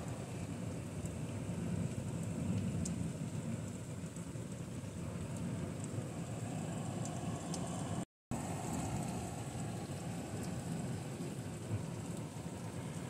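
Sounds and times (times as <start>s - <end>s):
freezing rain falling: 0.0s - 13.0s.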